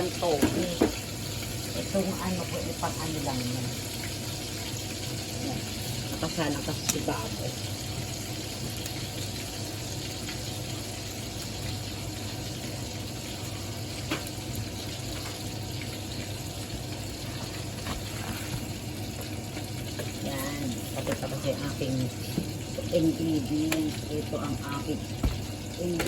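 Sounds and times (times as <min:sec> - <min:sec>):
meat sizzling in a pan: 0:00.0 - 0:26.0.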